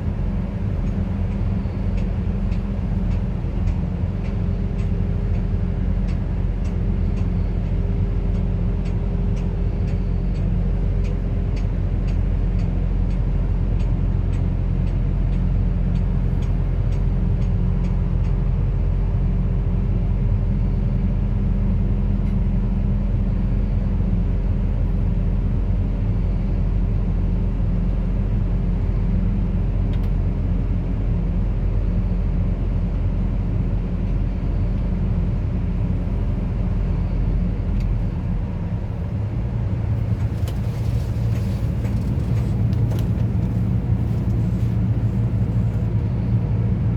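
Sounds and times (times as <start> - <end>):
diesel engine running: 0.0 - 14.1, 23.2 - 46.9.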